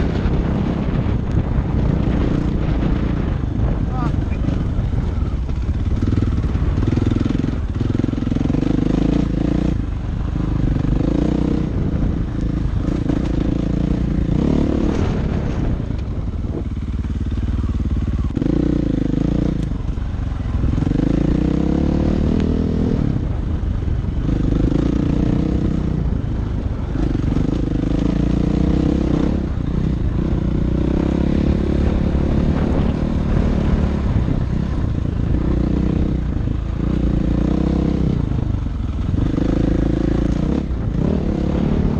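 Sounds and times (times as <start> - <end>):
dirt bike engine revving: 0.0 - 15.8, 16.5 - 23.4, 26.8 - 41.9.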